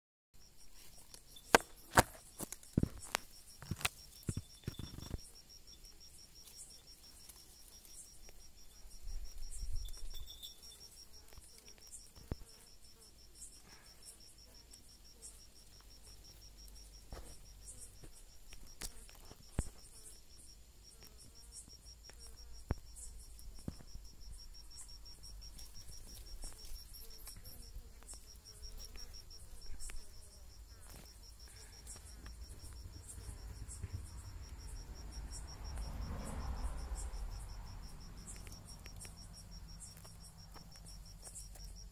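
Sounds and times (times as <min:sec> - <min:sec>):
cricket trilling: 0:00.4 - 0:41.9.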